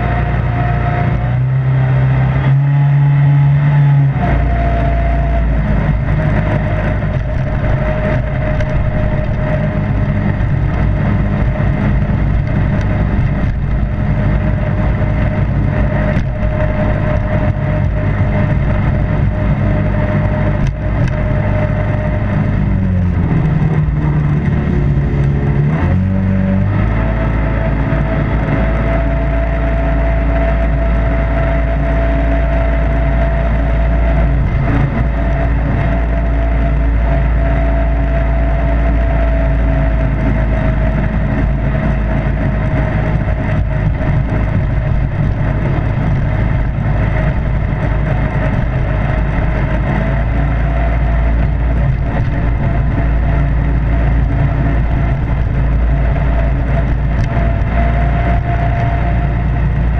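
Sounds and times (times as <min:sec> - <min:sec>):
jet boat engine running: 0:00.0 - 0:59.9.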